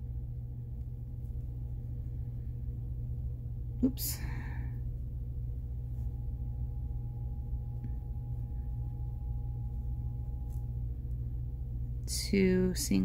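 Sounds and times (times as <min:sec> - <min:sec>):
faint steady whine: 0:00.0 - 0:13.0
low background hum: 0:00.0 - 0:13.0.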